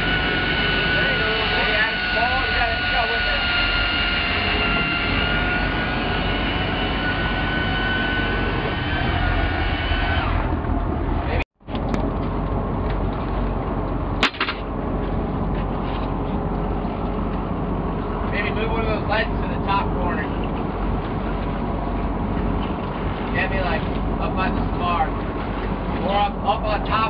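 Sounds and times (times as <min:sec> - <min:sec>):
boat engine running: 0:00.0 - 0:27.0
steady whine: 0:00.0 - 0:27.0.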